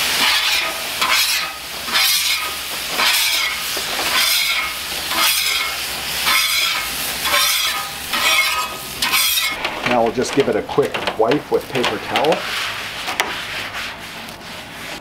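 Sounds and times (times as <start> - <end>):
water sizzling on hot griddle: 0.0 - 13.7
metal scraper on griddle: 0.0 - 15.0.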